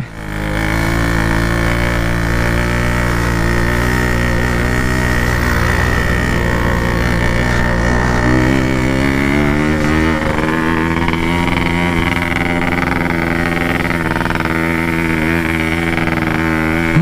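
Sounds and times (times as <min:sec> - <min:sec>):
two-stroke motorcycle engine: 0:00.0 - 0:17.0.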